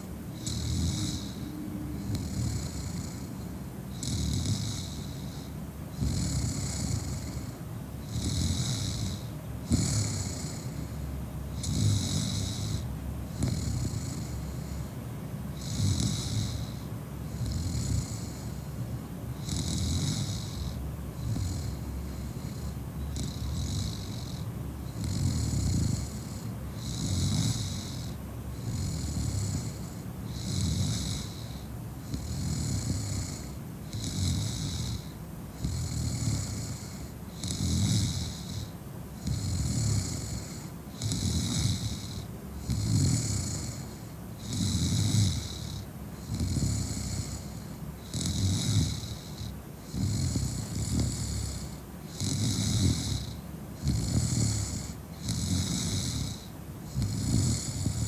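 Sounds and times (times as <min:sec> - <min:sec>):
woman snoring: 0:00.4 - 0:03.3, 0:04.0 - 0:14.8, 0:15.6 - 0:18.8, 0:19.4 - 0:58.0.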